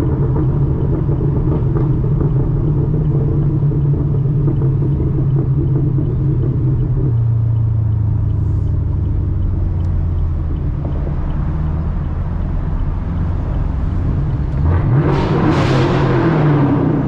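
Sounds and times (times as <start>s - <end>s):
car exhaust revving: 0.0s - 17.0s.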